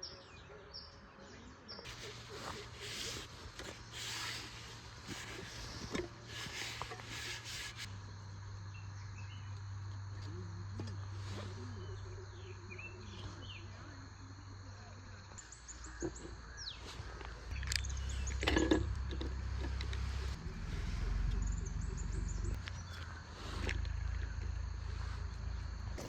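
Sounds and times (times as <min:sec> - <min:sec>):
birds chirping: 0:00.0 - 0:26.0
insects buzzing in pulses: 0:01.9 - 0:26.0
steady low hum: 0:01.9 - 0:26.0.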